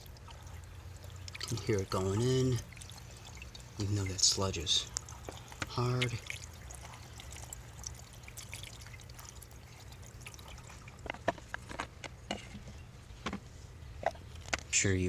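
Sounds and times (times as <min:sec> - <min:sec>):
liquid trickling through funnel: 0:00.0 - 0:12.1.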